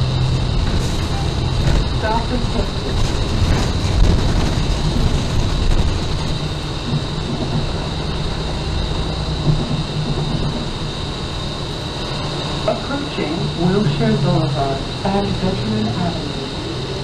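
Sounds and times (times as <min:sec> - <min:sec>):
bus engine and road rumble: 0:00.0 - 0:17.0
high whine: 0:00.0 - 0:17.0.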